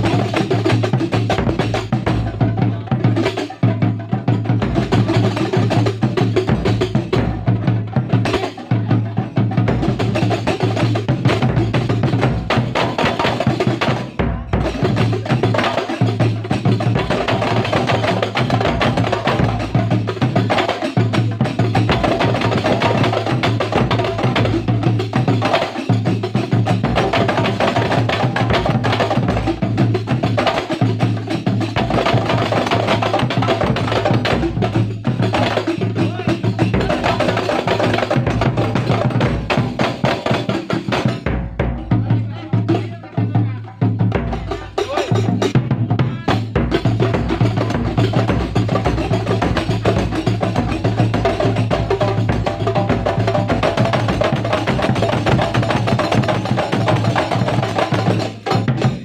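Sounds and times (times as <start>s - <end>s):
fast hand percussion: 0.0s - 59.0s.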